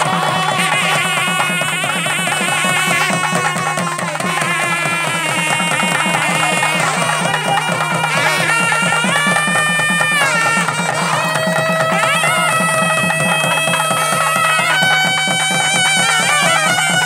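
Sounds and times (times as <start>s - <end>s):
fast steady drumbeat: 0.0s - 17.0s
wind instrument long notes: 0.0s - 17.0s.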